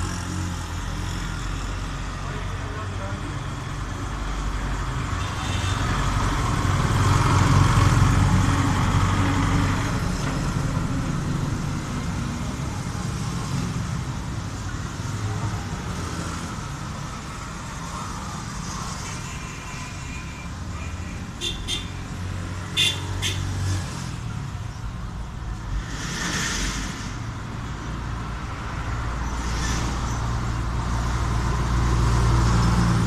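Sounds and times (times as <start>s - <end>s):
traffic background: 0.0s - 33.0s.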